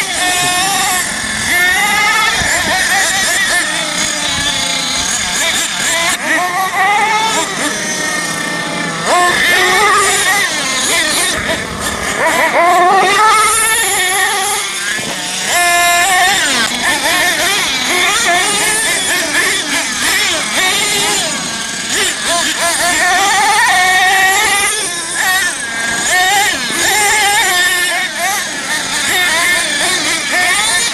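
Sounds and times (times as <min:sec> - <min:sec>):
small nitro engines revving: 0:00.0 - 0:30.9.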